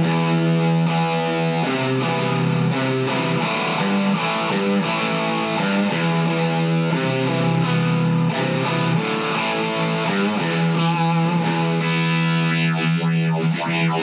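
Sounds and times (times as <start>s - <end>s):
distorted electric guitar: 0.0s - 14.0s.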